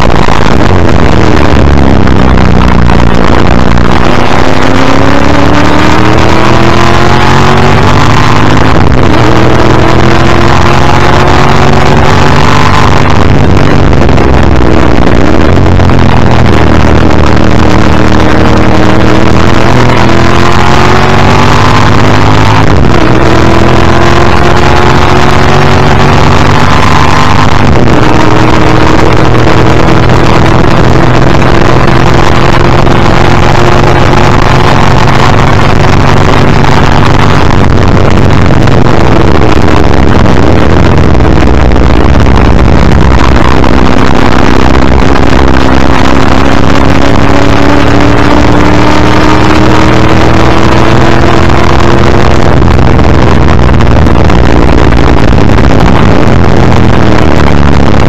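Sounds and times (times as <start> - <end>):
race car engine revving: 0.0 - 58.0
wind and road rush: 0.0 - 58.0.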